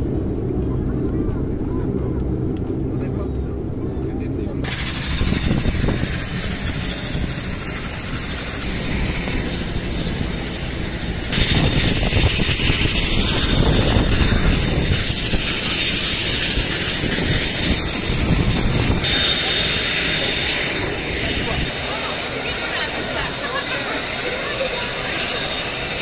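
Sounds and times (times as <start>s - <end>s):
aircraft engines rushing: 0.0s - 26.0s
high steady whine: 0.0s - 26.0s
lower engine whine: 0.0s - 26.0s.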